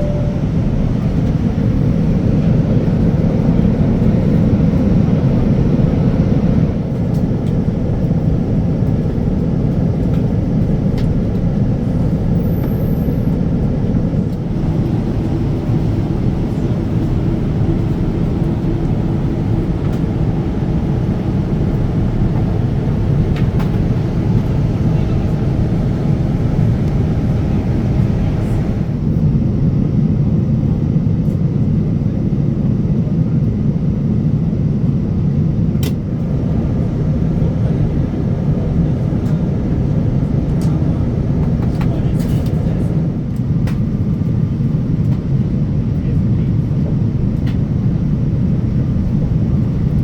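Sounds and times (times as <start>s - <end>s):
airliner cabin rumble: 0.0s - 50.0s.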